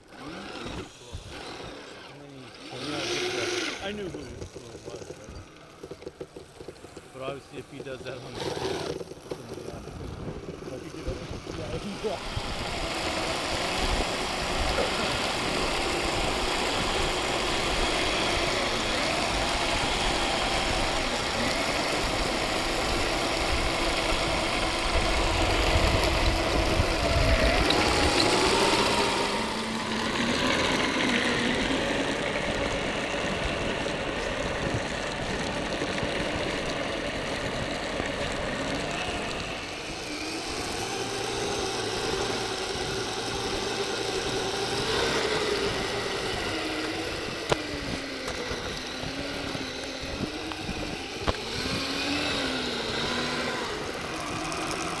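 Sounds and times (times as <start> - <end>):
motor running: 0.0 - 55.0.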